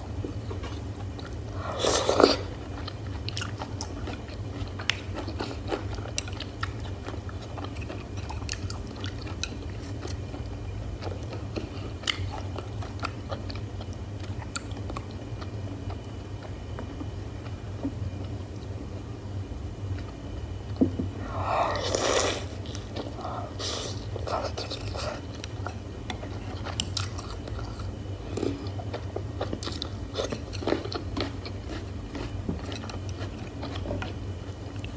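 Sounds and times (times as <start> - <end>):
steady low hum: 0.0 - 34.9
close-miked chewing: 0.2 - 18.8, 19.9 - 34.9.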